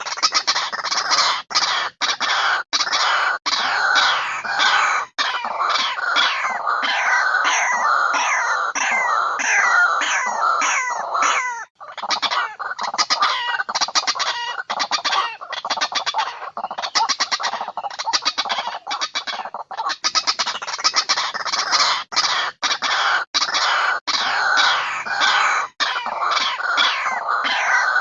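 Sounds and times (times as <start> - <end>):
bird harsh clucking calls: 0.0 - 28.0.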